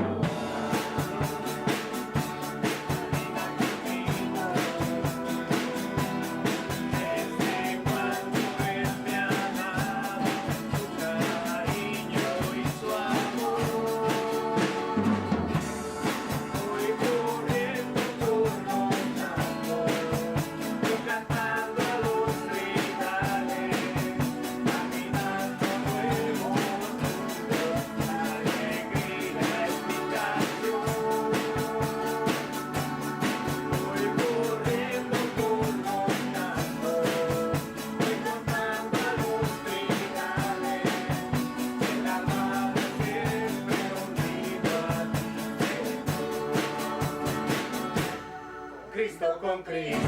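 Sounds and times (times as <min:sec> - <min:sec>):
drum kit beat: 0:00.0 - 0:48.5
live band playing church song: 0:00.0 - 0:50.0.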